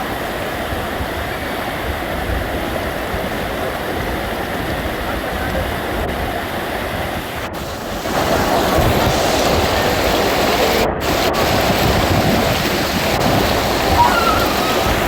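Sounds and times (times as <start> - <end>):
rushing water: 0.0 - 15.0
storm wind: 0.0 - 15.0.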